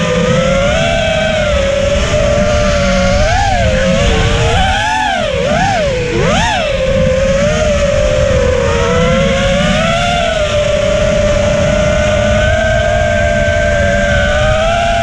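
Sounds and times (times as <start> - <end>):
quadcopter motors whining: 0.0 - 15.0
rough low rumble: 0.0 - 15.0.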